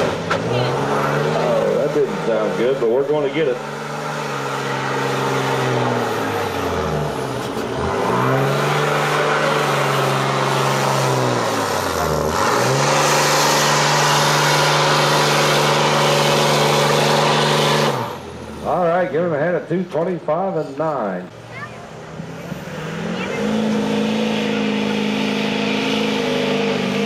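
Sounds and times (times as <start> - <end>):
diesel engine at full load: 0.0 - 27.0.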